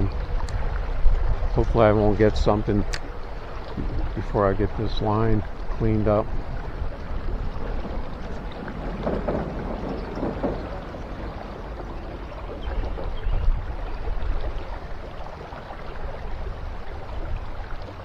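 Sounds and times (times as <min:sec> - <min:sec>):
low rumble: 0:00.0 - 0:15.0
water sloshing around legs: 0:02.2 - 0:18.0.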